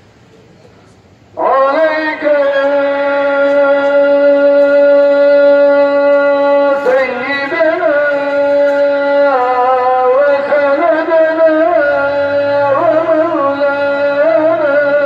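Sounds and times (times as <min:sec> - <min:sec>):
man chanting: 0:01.4 - 0:15.0.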